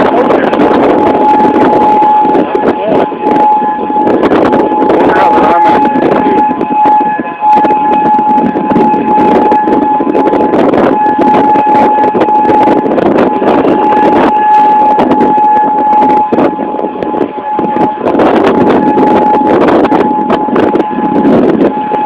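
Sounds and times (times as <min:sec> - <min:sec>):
heavy wind on microphone: 0:00.0 - 0:22.0
tornado warning siren wailing: 0:00.0 - 0:22.0.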